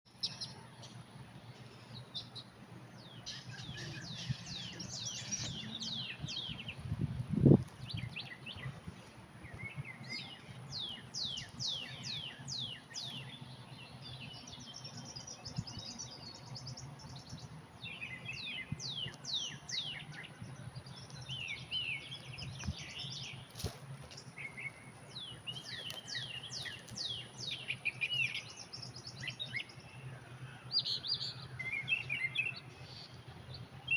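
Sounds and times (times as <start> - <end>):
birds singing and calling: 0.1 - 33.9.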